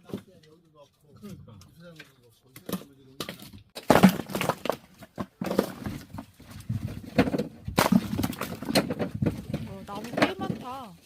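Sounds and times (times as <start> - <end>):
firewood logs knocking together: 0.0 - 0.5, 2.0 - 11.0.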